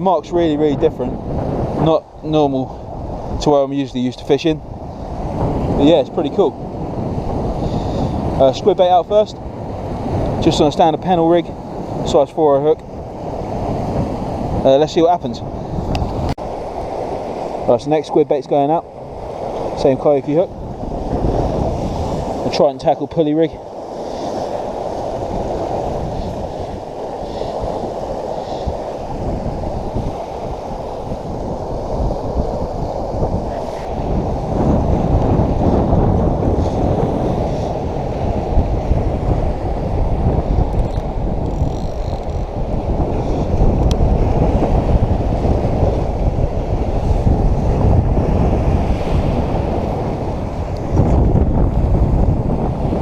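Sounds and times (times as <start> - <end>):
sea washing against rocks: 0.0 - 53.0
wind buffeting microphone: 0.0 - 53.0.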